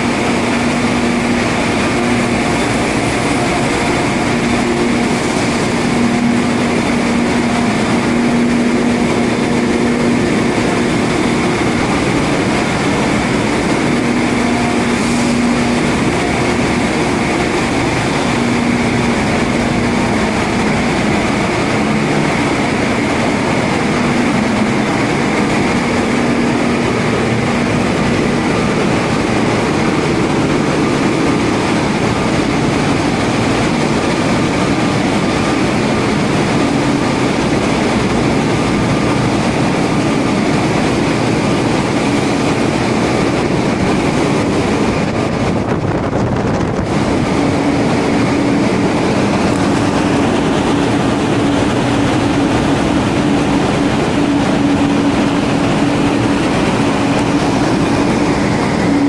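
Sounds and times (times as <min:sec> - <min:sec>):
engine room machinery din: 0:00.0 - 0:59.0.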